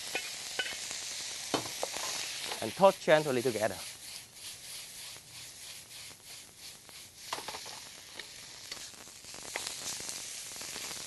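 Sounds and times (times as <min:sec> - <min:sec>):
spatula scraping a wok: 0:00.0 - 0:10.9
rice sizzling in a wok: 0:00.0 - 0:11.0.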